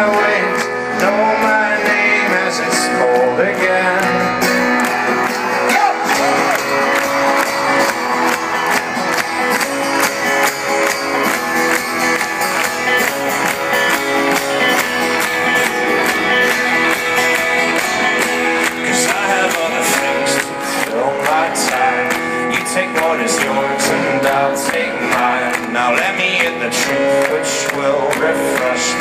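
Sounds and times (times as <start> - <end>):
folk-rock band instrumental: 0.0 - 29.0.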